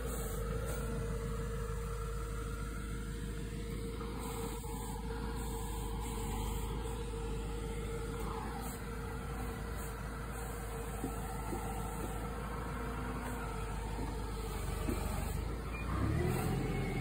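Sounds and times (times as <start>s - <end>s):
tree shaker machine humming: 0.0s - 17.0s.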